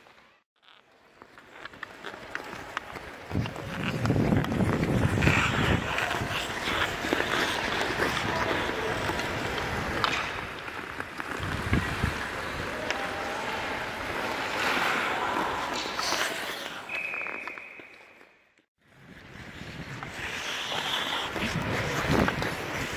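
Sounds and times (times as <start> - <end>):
ice skate blades scraping: 0.0 - 12.8, 14.0 - 22.9.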